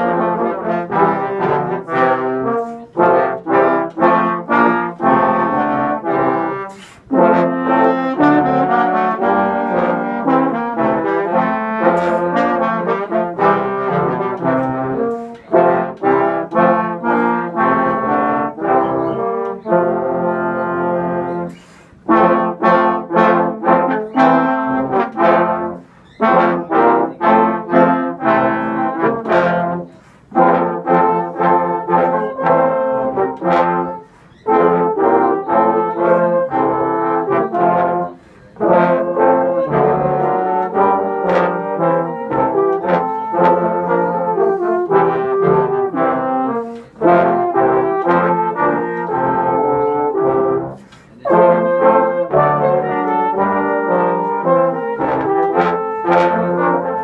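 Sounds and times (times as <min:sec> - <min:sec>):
trombones playing in harmony: 0:00.0 - 0:57.0.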